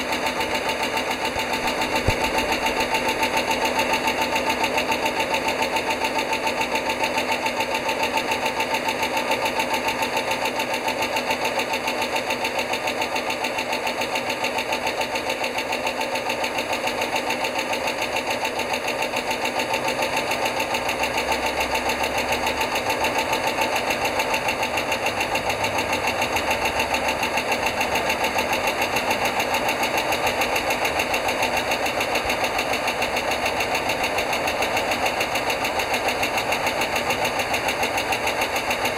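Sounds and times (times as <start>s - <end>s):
bus engine idling: 0.0s - 38.9s
rapid engine ticking: 0.0s - 38.9s.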